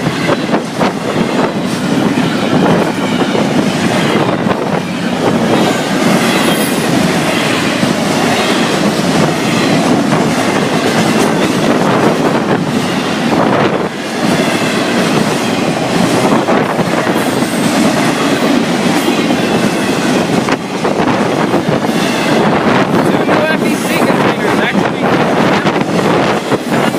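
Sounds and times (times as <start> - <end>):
freight cars rattling on rails: 0.0 - 26.9.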